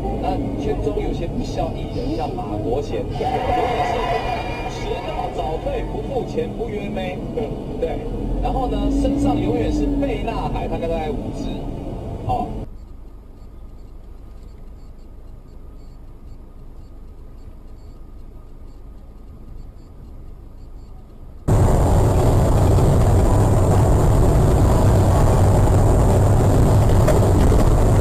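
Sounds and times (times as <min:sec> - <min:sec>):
vehicle road and engine noise: 0:00.0 - 0:28.0.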